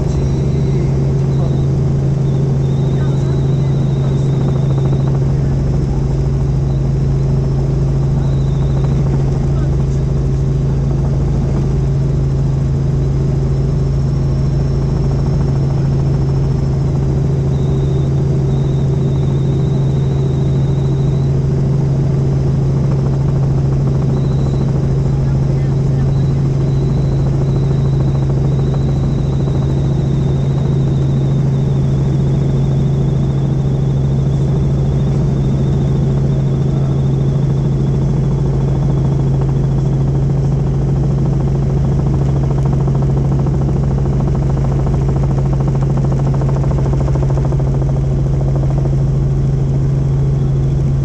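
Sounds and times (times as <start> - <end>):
faint high whine: 0.0 - 51.0
helicopter drone: 0.0 - 51.0.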